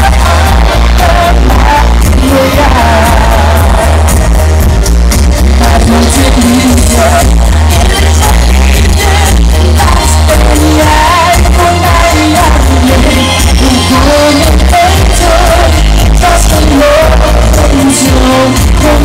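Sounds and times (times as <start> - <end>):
woman singing into a microphone: 0.0 - 4.2, 5.6 - 19.0
amplified music with heavy bass: 0.0 - 19.0.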